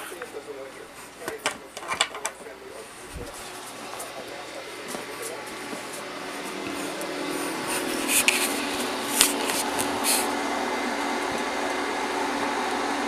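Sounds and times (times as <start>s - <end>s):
machine whir with low hum: 0.0s - 13.0s.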